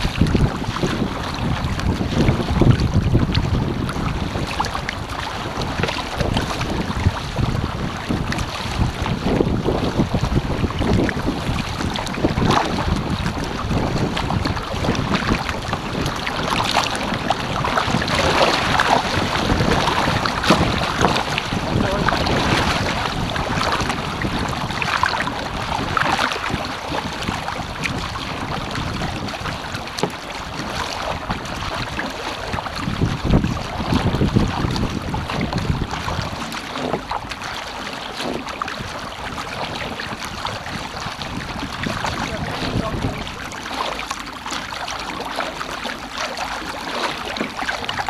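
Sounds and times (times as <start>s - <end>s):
paddle splashes: 0.0s - 48.0s
water rushing along a boat hull: 0.0s - 48.0s
wind buffeting microphone: 0.0s - 48.0s.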